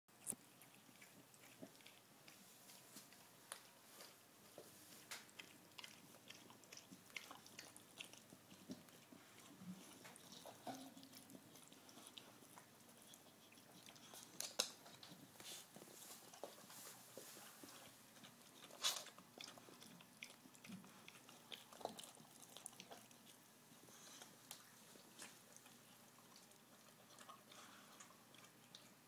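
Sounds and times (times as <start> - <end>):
dog licking: 0.2 - 3.6, 4.9 - 29.0.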